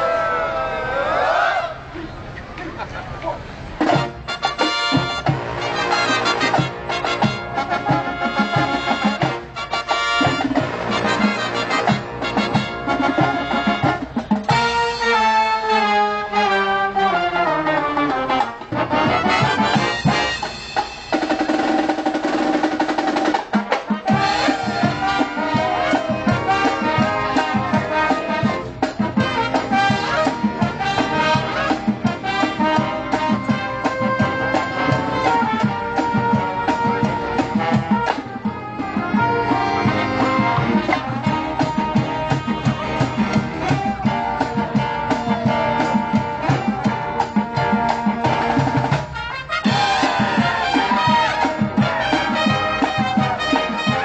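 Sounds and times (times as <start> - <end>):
drum kit beat: 3.8 - 15.0, 18.4 - 54.0
brass horns playing: 3.8 - 54.0.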